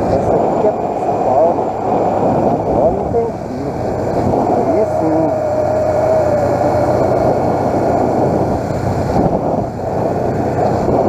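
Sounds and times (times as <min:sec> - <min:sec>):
motorcycle engine running: 0:00.0 - 0:11.0
road noise: 0:00.0 - 0:11.0
wind noise: 0:00.0 - 0:11.0.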